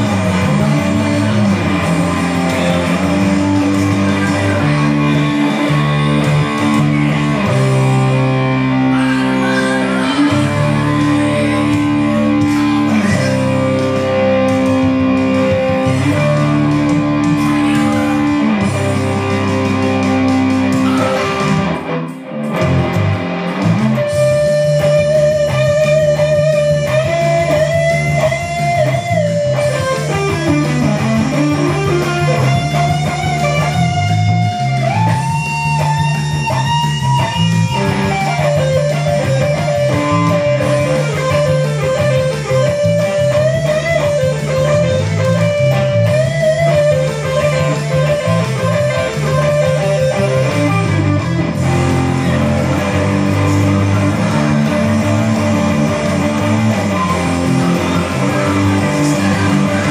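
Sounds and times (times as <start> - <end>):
electric guitar rock lead: 0.0 - 59.9
low steady rhythm guitar: 0.0 - 59.9.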